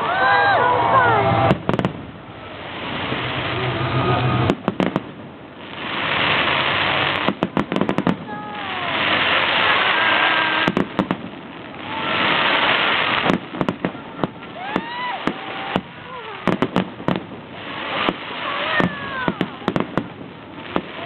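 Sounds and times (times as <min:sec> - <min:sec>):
fireworks crackling: 0:00.0 - 0:21.0
fireworks bangs: 0:00.1 - 0:21.0.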